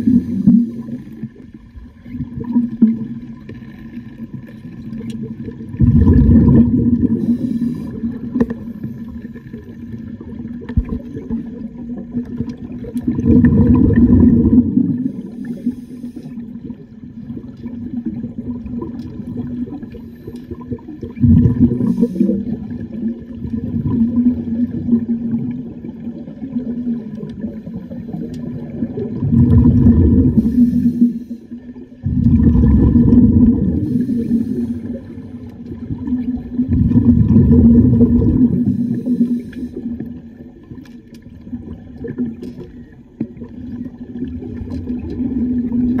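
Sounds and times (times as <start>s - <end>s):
underwater regulator bubbles: 0.0s - 46.0s.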